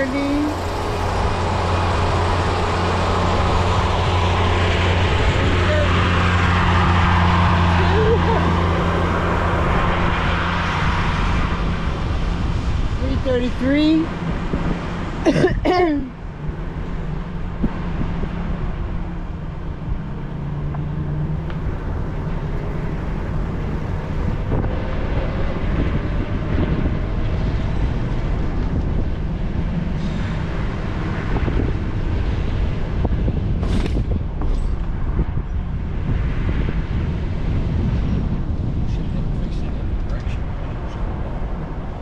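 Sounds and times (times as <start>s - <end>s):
car engine and tyres rumbling: 0.0s - 42.0s.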